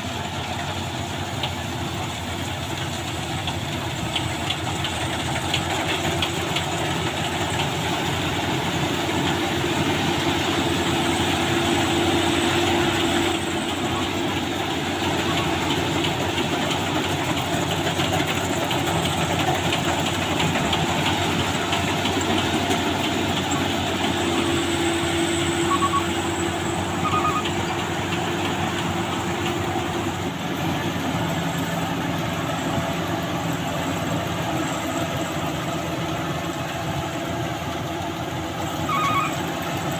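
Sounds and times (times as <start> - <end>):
combine harvester clattering drone: 0.0 - 39.9.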